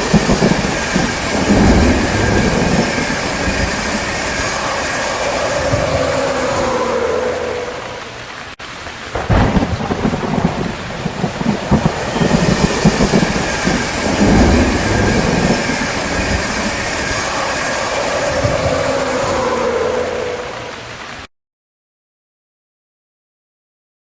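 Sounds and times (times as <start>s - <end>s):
steady rain: 0.0s - 21.3s
thunder rumbling: 0.0s - 21.3s.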